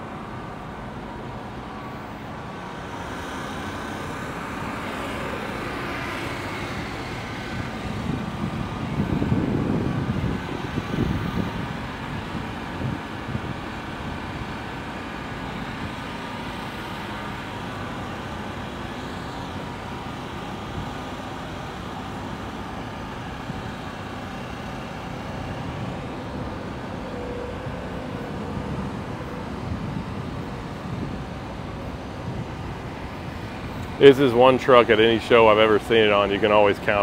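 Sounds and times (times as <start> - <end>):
vehicle engines droning: 0.0 - 37.0.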